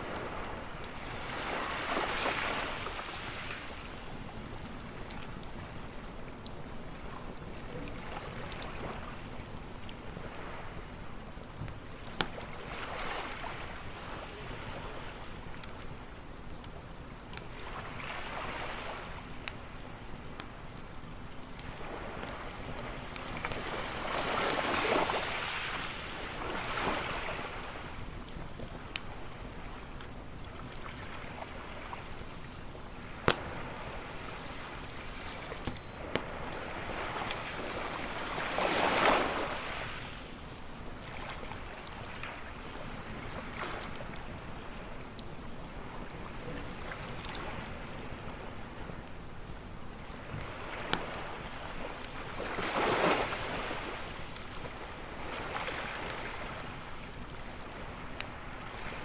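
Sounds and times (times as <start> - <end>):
campfire crackling and popping: 0.0 - 59.0
waves washing onto beach: 0.0 - 59.0.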